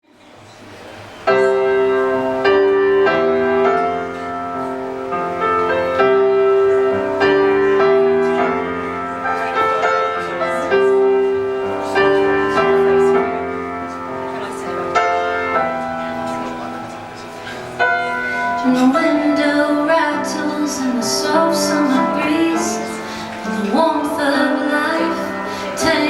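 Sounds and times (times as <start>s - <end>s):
slow piano chords ringing: 0.9s - 26.0s.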